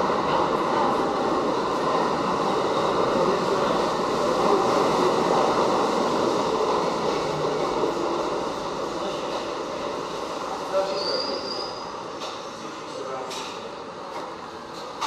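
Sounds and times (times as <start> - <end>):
subway wheels rumbling on rails: 0.0 - 15.0.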